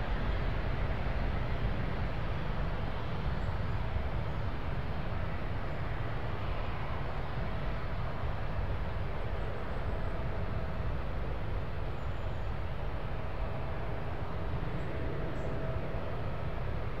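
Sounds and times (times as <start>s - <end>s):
jet airliner climbing deep rumble: 0.0s - 17.0s.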